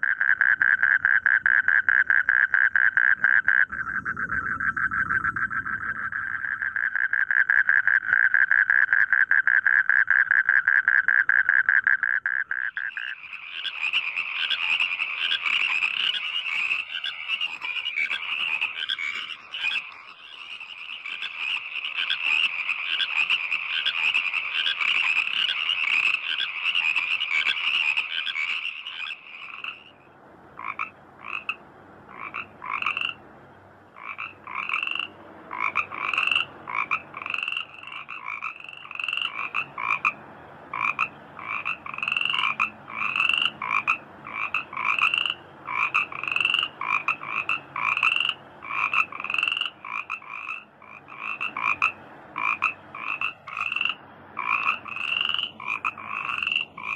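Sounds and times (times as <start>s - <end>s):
frog chorus: 0.0s - 33.2s, 34.0s - 56.9s
frog croaks: 0.0s - 33.2s, 34.0s - 56.9s.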